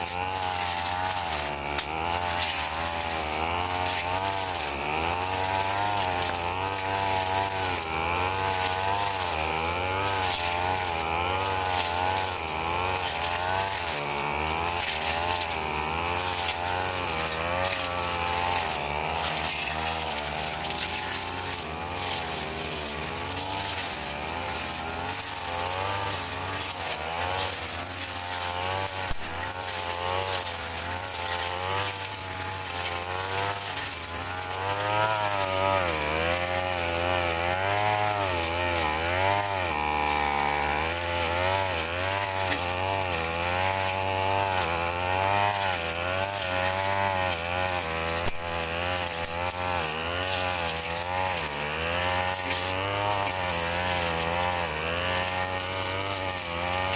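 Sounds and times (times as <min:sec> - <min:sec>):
brush cutter engine: 0:00.0 - 0:56.9.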